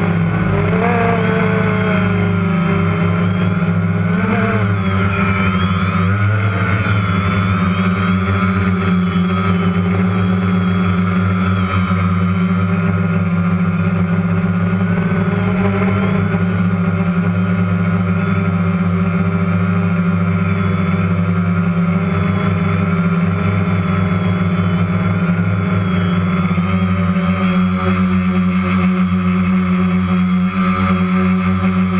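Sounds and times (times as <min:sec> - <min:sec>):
high wavering whine: 0:00.0 - 0:31.9
quadcopter rotors humming: 0:00.0 - 0:31.9.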